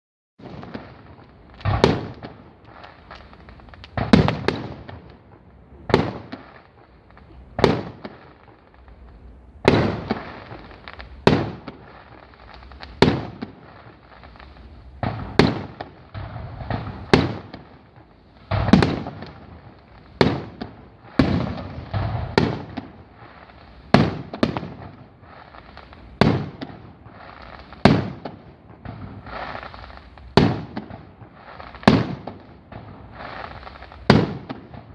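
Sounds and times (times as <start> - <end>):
fireworks crackling and rumble: 0.4 - 34.9.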